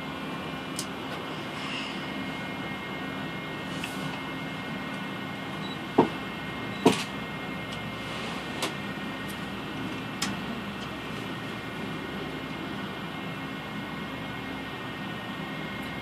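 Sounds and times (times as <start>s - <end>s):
cable car cabin hum and rush: 0.0s - 16.0s.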